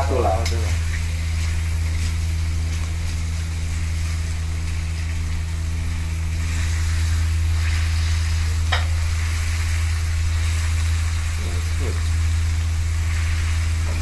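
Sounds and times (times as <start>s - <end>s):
loud low hum: 0.0s - 14.0s
meat sizzling in a wok: 0.0s - 14.0s.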